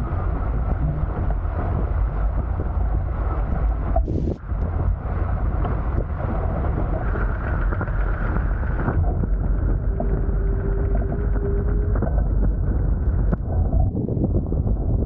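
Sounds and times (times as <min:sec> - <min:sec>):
water rushing past hulls: 0:00.0 - 0:13.8
steady hum: 0:00.0 - 0:15.0
wind buffeting microphone: 0:00.0 - 0:15.0.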